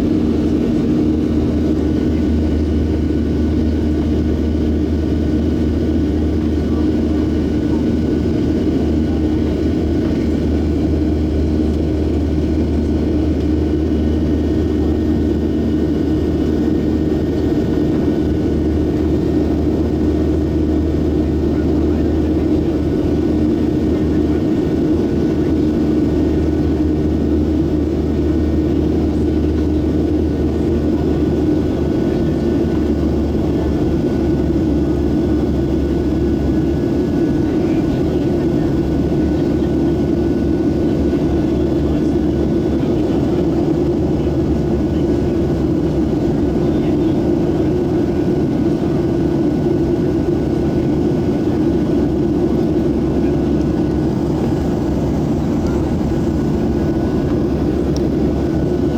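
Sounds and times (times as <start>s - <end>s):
jet engines droning: 0.0s - 58.9s.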